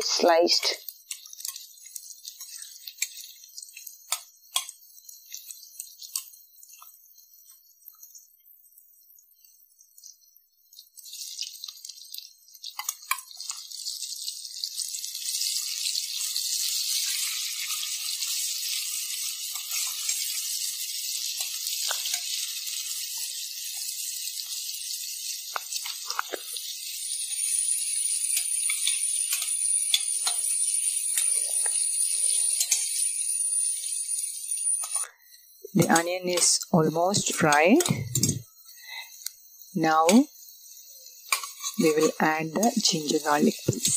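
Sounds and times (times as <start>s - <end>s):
onions sizzling in hot oil: 0.0s - 43.9s.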